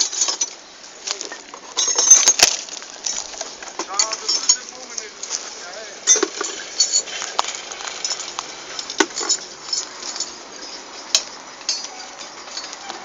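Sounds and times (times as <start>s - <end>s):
metal hardware clinking: 0.0s - 5.4s, 6.0s - 13.0s
high jingles: 0.0s - 13.0s.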